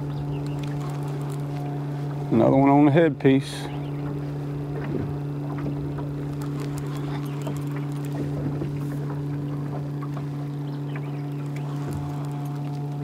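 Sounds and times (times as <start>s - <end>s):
fish splashing: 0.0s - 2.3s, 4.5s - 13.0s
boat motor humming: 0.0s - 13.0s.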